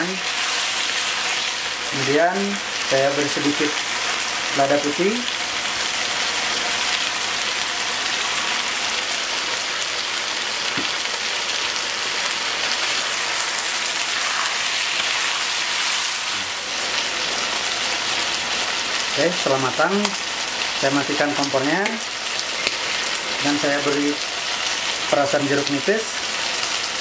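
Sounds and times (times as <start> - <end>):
stir-fry sizzling in a frying pan: 0.0 - 27.0.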